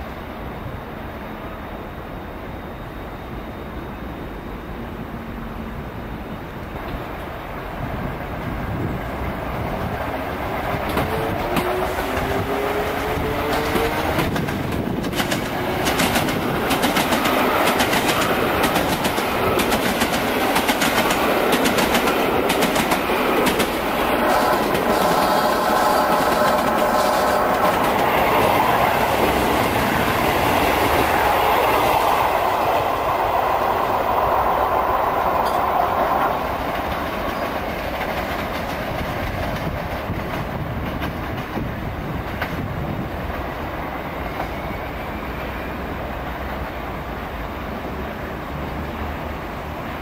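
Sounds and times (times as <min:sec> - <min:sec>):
electric train passing: 0:00.0 - 0:50.0.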